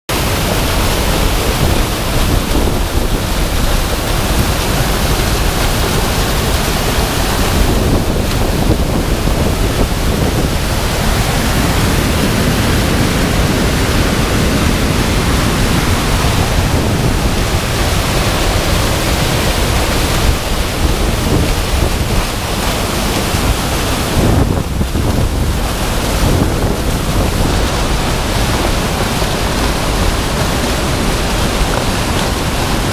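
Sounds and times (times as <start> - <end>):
rushing churning water: 0.1 - 32.9.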